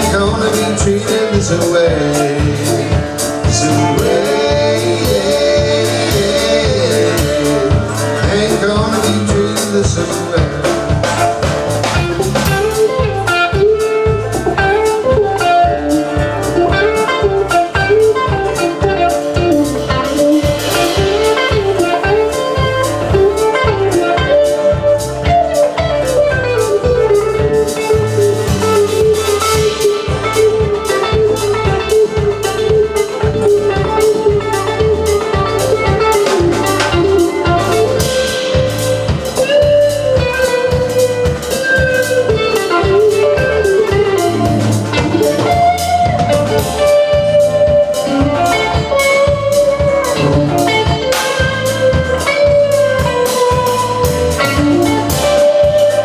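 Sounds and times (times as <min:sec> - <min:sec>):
country band playing: 0:00.0 - 0:56.0
sliding lead melody: 0:00.0 - 0:56.0.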